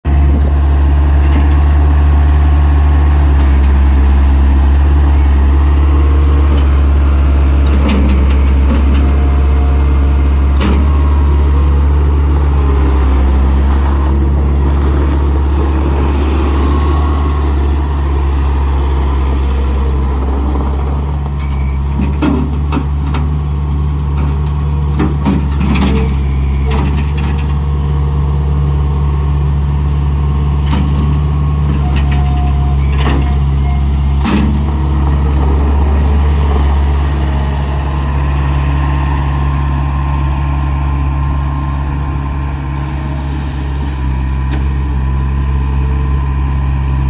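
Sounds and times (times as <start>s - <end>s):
loader engine running: 0.0s - 47.0s.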